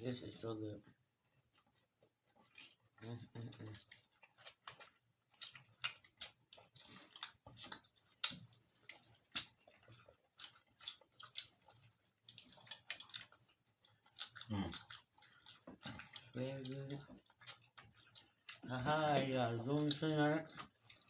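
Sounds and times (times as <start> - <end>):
person chewing and eating: 1.3 - 21.0.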